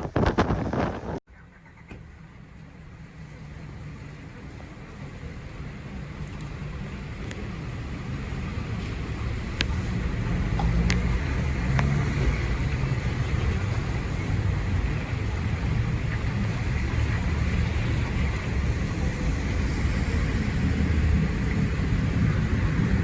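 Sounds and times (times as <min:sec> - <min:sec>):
wind rumble on microphone: 0:00.0 - 0:01.2, 0:05.6 - 0:23.0
strong wind: 0:00.0 - 0:01.8, 0:03.7 - 0:23.0
heavy rain: 0:03.0 - 0:23.0.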